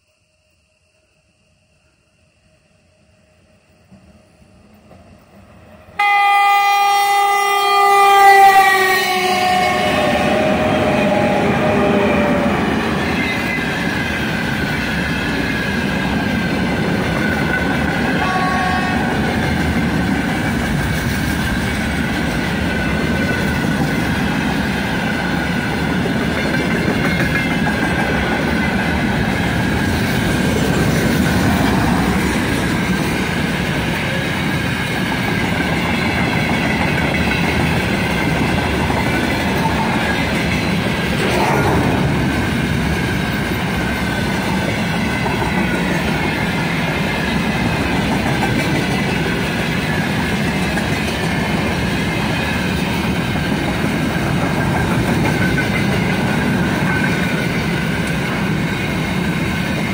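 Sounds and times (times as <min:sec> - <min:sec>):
train wheels rumbling on rails: 0:02.9 - 0:59.9.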